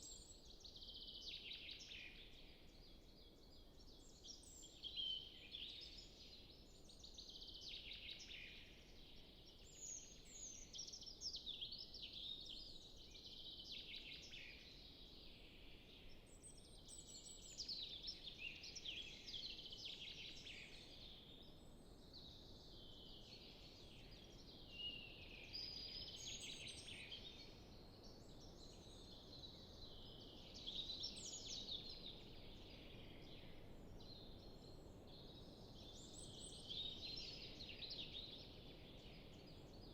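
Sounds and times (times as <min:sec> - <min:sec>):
forest songbirds singing: 0:00.0 - 0:39.9.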